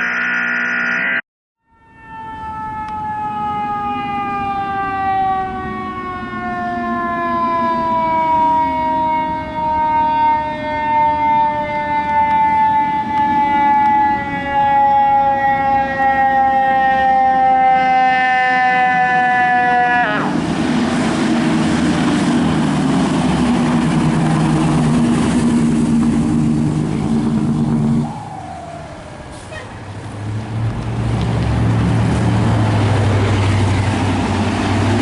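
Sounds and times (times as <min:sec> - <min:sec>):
fire truck siren: 0:00.0 - 0:35.0.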